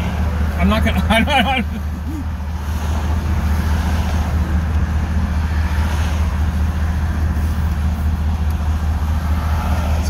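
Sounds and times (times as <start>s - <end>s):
car engine droning: 0.0s - 10.0s
road noise: 0.0s - 10.0s.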